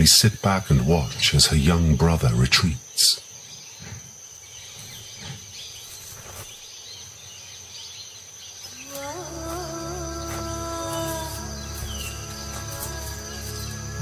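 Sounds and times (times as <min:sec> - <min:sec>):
high insect drone: 0:00.0 - 0:14.0
faint bird chirps: 0:02.5 - 0:14.0.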